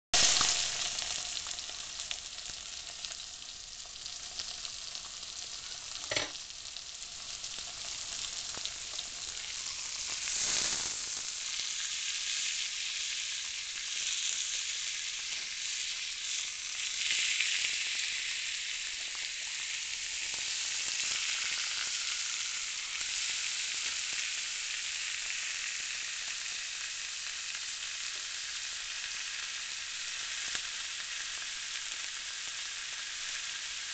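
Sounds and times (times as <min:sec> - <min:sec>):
steaks sizzling in a pan: 0:00.2 - 0:33.9.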